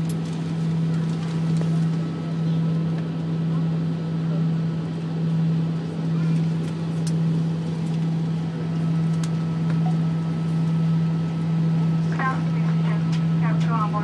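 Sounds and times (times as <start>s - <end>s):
jet engines idling hum: 0.0s - 14.0s.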